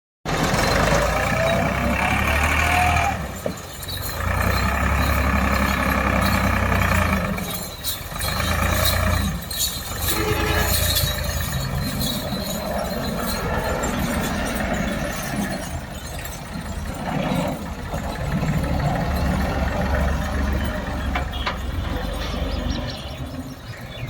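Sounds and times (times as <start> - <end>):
tractor diesel engine running: 0.2 - 24.0.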